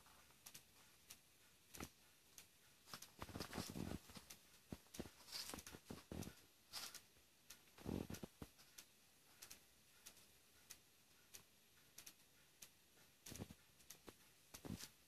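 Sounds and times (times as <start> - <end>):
small clicks on tile floor: 0.0 - 15.0.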